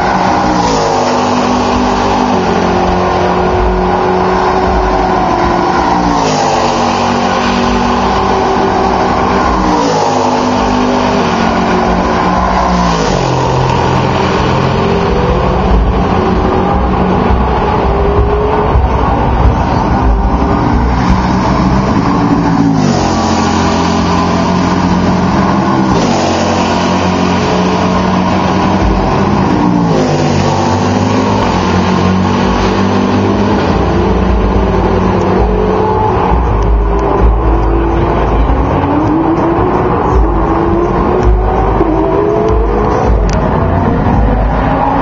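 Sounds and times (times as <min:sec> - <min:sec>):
race car engines passing: 0:00.0 - 0:45.0.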